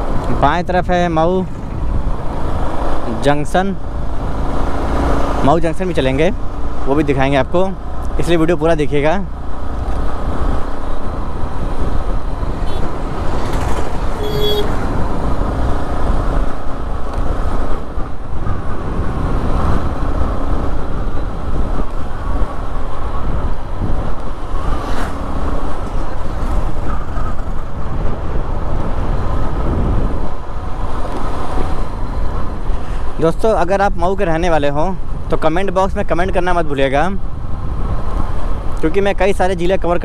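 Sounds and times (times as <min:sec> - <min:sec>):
road traffic: 0:00.0 - 0:40.0.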